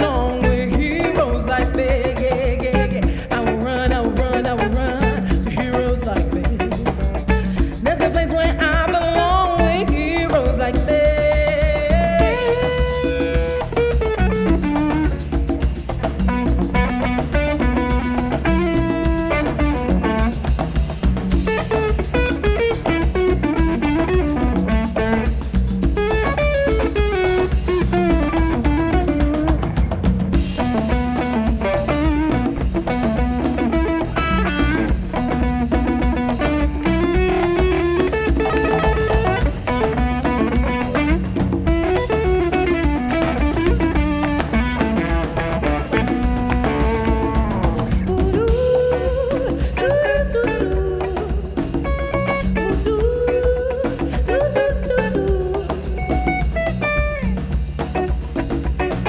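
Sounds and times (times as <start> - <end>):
bass guitar: 0.0 - 59.0
drum kit: 0.0 - 59.0
electric guitar melody: 0.0 - 59.0.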